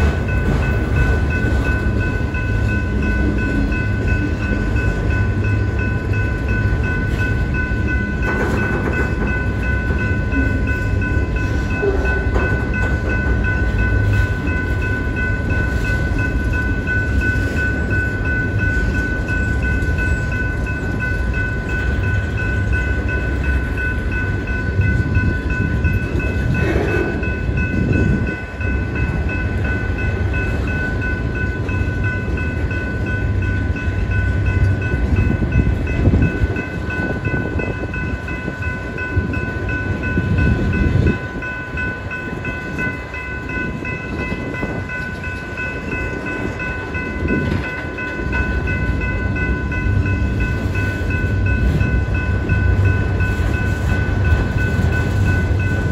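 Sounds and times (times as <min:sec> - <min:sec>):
crossing warning bell ringing: 0:00.0 - 0:55.9
train wheels rumbling and clacking: 0:00.0 - 0:55.9.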